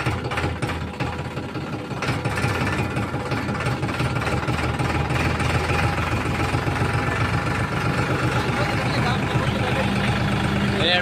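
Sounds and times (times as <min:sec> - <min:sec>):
tractor diesel engine throbbing: 0:00.0 - 0:11.0.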